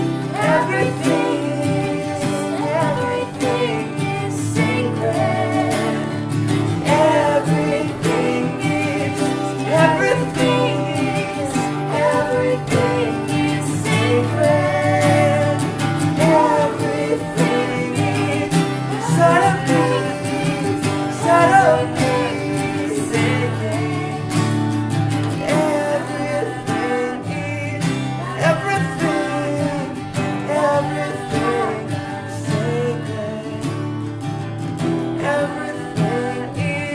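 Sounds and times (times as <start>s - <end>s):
acoustic guitars strumming: 0.0s - 36.9s
voices singing folk-rock song: 0.0s - 36.9s.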